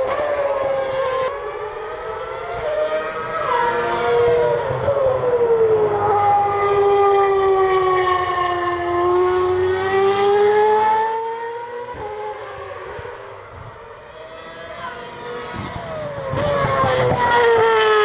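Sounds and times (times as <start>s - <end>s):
race car engine howling past: 0.0s - 18.0s.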